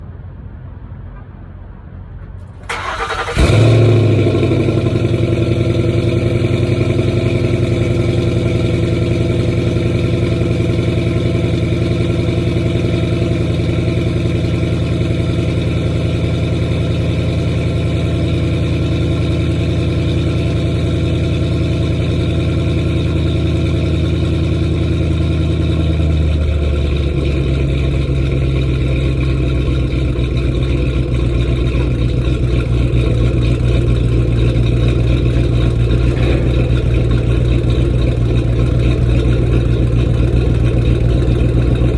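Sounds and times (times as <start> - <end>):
car engine starting and idling: 2.2 - 41.9.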